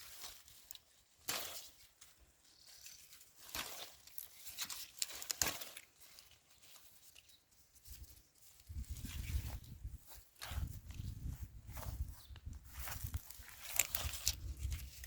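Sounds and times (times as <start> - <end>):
dry vines rustling and crackling: 0.0 - 15.0.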